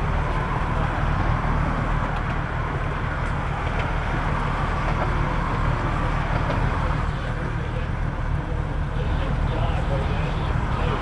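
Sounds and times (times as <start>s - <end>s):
boat engine humming: 0.0s - 11.0s
wind and water noise: 0.0s - 11.0s.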